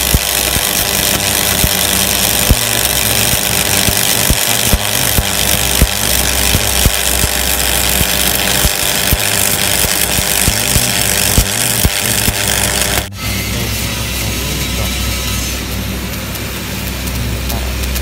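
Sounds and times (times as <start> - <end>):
welding arc crackling and popping: 0.0 - 13.2, 13.9 - 18.0.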